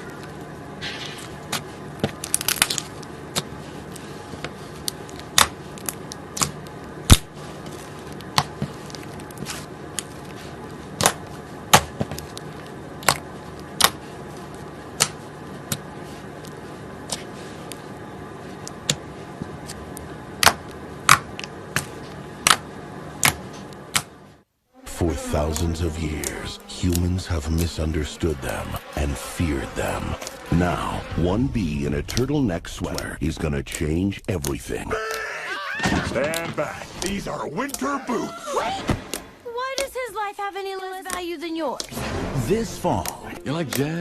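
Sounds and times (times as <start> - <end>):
low hum: 0.0 - 35.0, 41.8 - 44.0.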